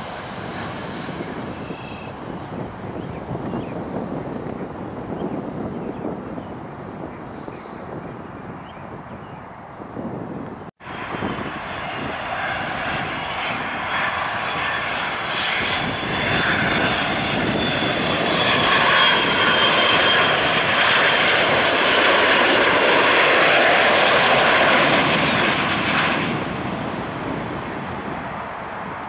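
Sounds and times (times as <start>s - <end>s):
jet engines passing: 0.0s - 29.0s.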